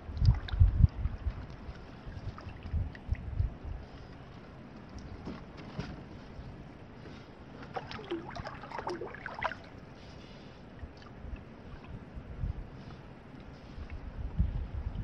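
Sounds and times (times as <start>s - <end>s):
paddle splashing and gurgling: 0.0s - 6.4s, 7.0s - 13.8s
steady low rumble: 0.0s - 15.0s.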